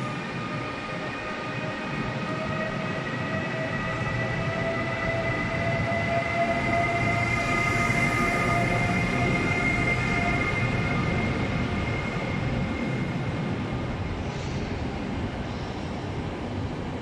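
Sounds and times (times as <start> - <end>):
electric locomotive whine: 0.0 - 17.0.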